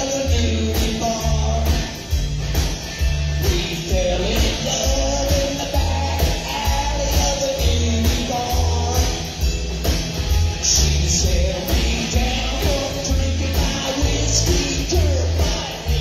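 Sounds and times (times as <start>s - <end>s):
drum kit beat: 0.0s - 16.0s
electric guitar: 0.0s - 16.0s
upright bass line: 0.0s - 16.0s.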